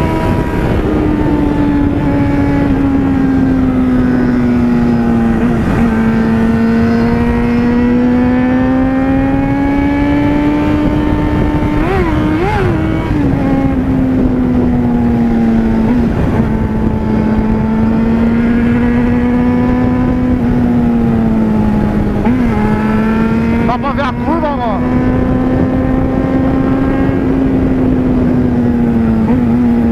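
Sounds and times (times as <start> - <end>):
motorcycle engine cruising: 0.0 - 29.9
wind rush: 0.0 - 29.9.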